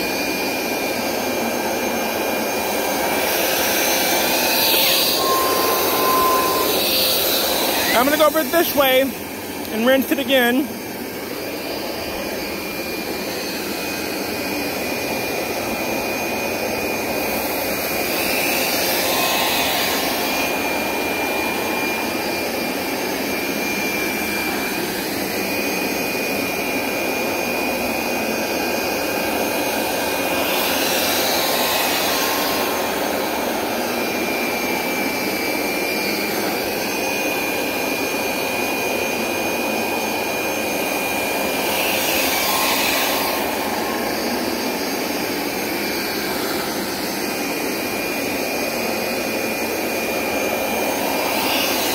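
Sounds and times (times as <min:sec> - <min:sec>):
carpet cleaner motor with whine: 0:00.0 - 0:51.9.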